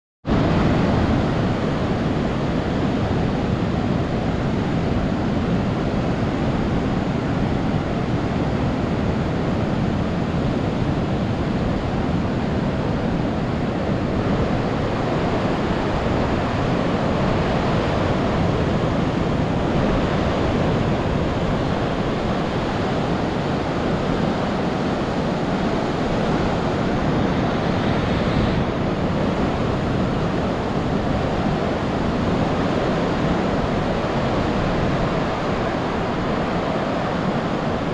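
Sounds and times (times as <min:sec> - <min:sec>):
wind noise on microphone: 0:00.2 - 0:37.9
ocean surf breaking: 0:00.3 - 0:37.9.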